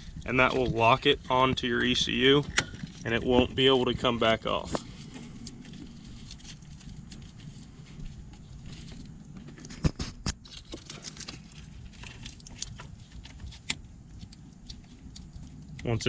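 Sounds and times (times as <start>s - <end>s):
wires rustling: 0.0s - 16.0s.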